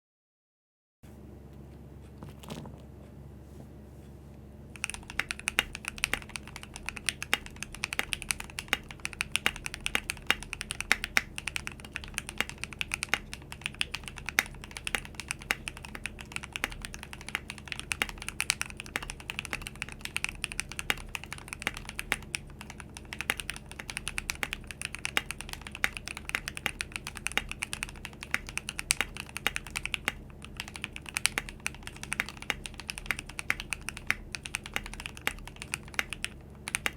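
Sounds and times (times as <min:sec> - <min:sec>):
fast mechanical keyboard typing: 0:04.8 - 0:36.9.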